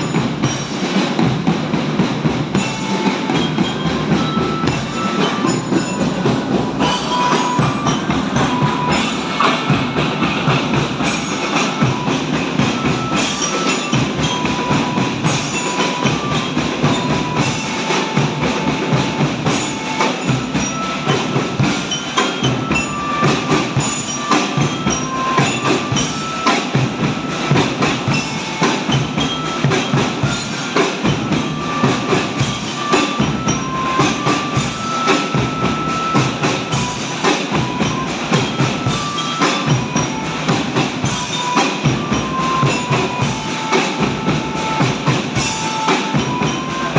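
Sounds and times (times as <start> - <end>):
marching drum band playing: 0.0 - 46.9.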